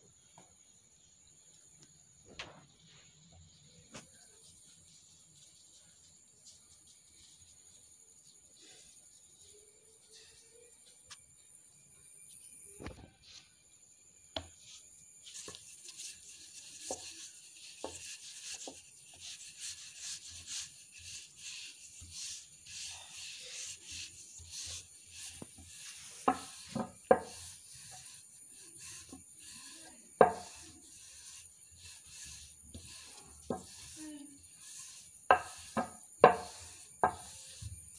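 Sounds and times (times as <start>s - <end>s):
rolling pin rubbing on dough: 3.9s - 11.0s, 14.4s - 37.9s.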